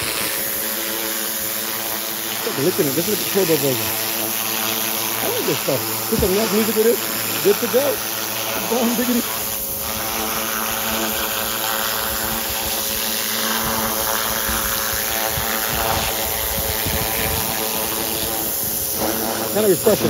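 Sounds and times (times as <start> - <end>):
pressure washer spraying concrete: 0.0 - 20.0.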